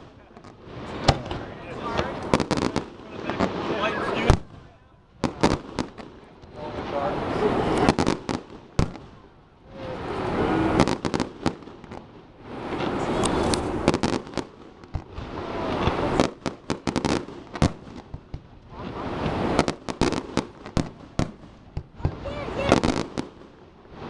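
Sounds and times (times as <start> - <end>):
crackling hiss of fireworks: 0.0 - 24.0
fireworks bangs and pops: 0.0 - 24.0.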